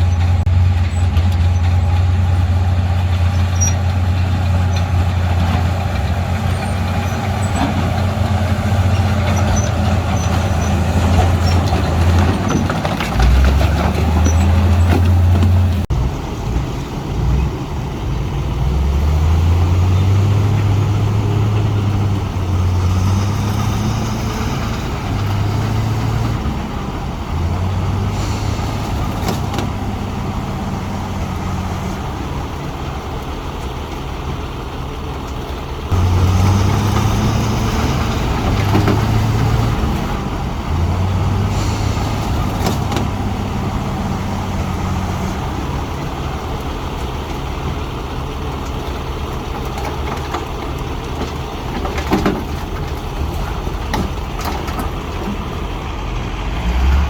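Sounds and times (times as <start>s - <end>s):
heavy diesel engines working: 0.0s - 57.0s.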